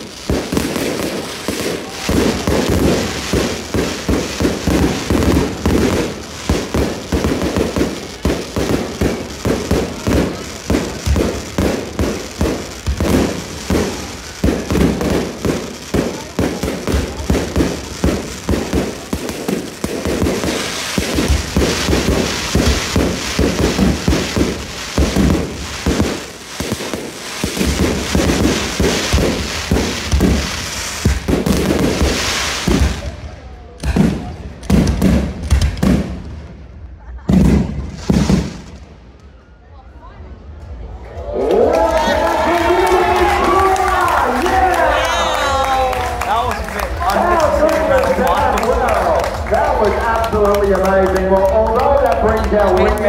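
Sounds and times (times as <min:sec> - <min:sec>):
fireworks bangs: 0:00.0 - 0:39.4, 0:40.3 - 0:53.0
fireworks crackle: 0:00.0 - 0:39.4, 0:40.4 - 0:53.0.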